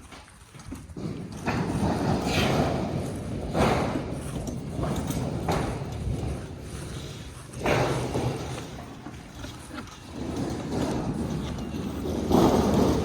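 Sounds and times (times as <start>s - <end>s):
footsteps on metal roof: 0.0s - 13.0s.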